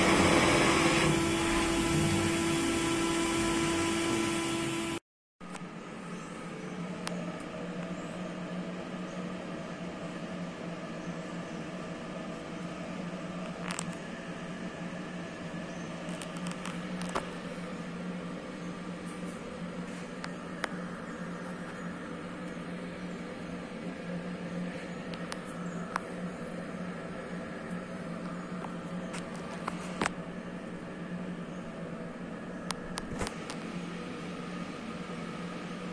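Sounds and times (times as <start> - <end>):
milling machine humming: 0.0 - 35.9.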